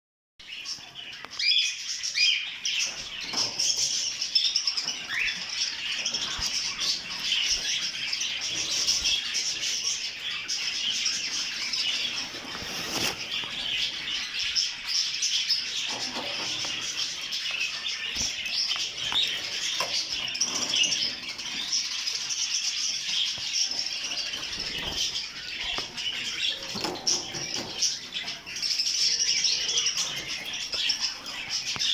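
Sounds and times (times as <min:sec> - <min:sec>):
canaries chirping and twittering: 0:00.4 - 0:31.9.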